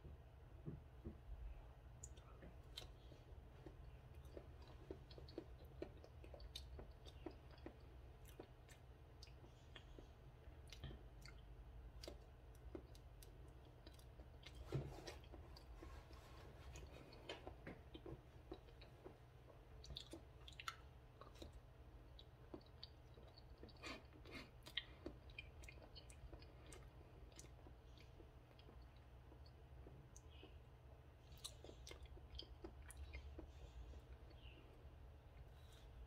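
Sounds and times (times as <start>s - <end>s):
person chewing wet smacks: 2.0s - 15.8s, 16.8s - 30.6s, 31.2s - 34.6s.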